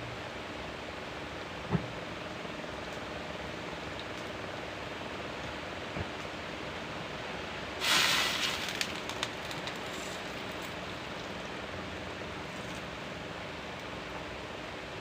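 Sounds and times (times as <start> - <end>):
steady background noise: 0.0 - 15.0
loud hiss with crackles: 2.6 - 15.0.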